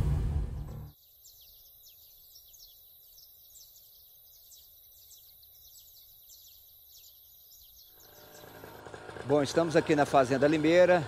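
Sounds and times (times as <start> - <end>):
small birds chirping: 0.5 - 11.0.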